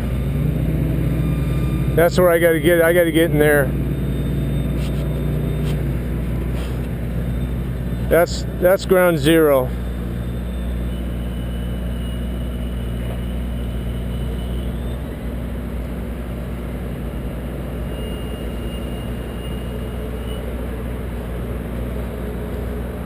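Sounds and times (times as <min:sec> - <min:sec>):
aerial lift engine droning: 0:00.0 - 0:23.0.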